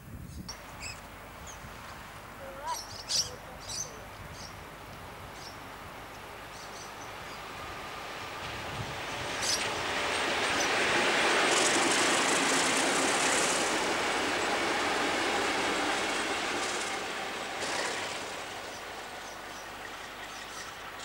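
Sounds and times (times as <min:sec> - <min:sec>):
diesel locomotives passing: 0:00.5 - 0:21.0.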